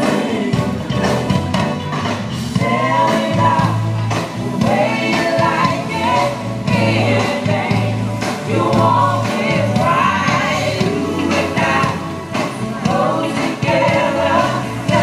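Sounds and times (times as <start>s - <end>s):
backing singers singing: 0.0s - 1.1s, 2.6s - 15.0s
live soul band playing: 0.0s - 15.0s.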